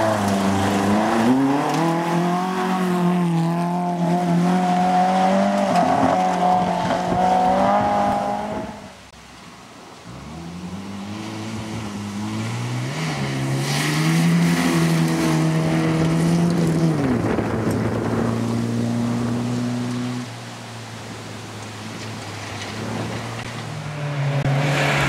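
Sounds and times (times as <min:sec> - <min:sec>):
rally car engine accelerating: 0:00.0 - 0:08.9, 0:10.1 - 0:20.3, 0:22.7 - 0:25.0.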